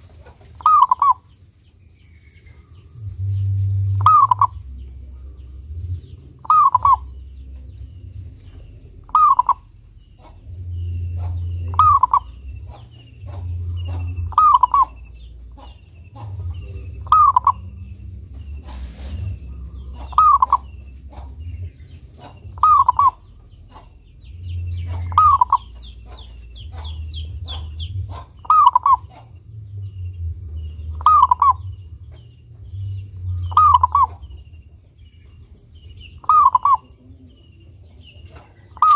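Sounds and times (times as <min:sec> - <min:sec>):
dove cooing: 0:00.0 - 0:01.4, 0:02.6 - 0:38.9
low rumble: 0:00.0 - 0:38.9
faint high chirps: 0:02.0 - 0:38.9.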